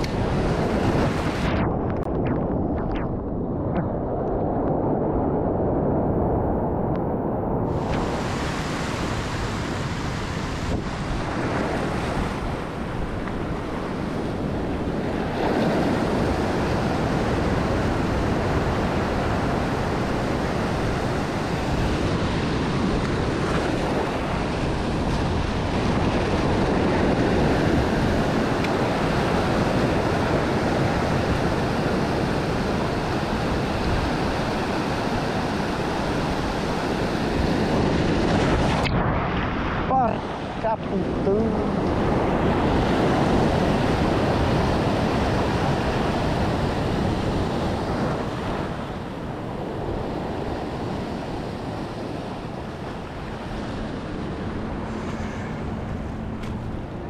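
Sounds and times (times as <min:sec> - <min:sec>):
surf breaking over rocks: 0:07.6 - 0:57.0.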